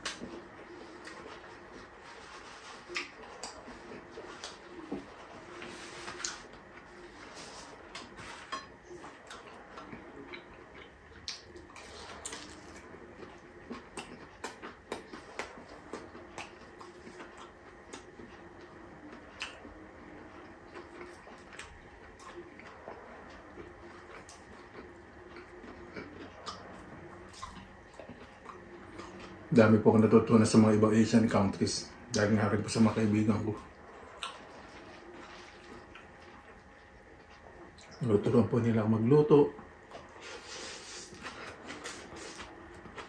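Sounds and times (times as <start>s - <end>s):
chewing: 0.0s - 29.5s, 32.1s - 38.0s, 39.6s - 43.0s.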